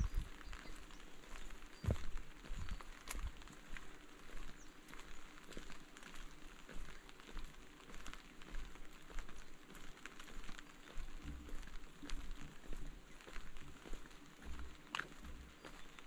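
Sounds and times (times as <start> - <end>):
footsteps walking: 0.0 - 16.0
rain drops ticking: 0.0 - 16.0.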